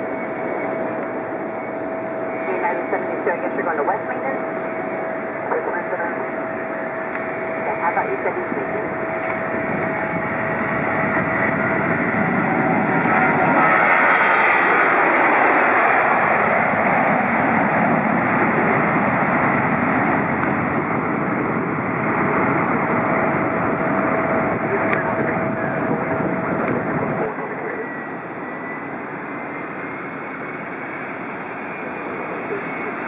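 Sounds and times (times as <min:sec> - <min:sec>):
jet airliner engines running: 0:00.0 - 0:33.0
steady whine: 0:00.0 - 0:33.0.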